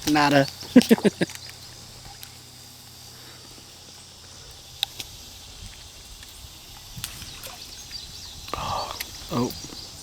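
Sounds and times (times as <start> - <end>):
faint high insect hum: 0.0 - 10.0.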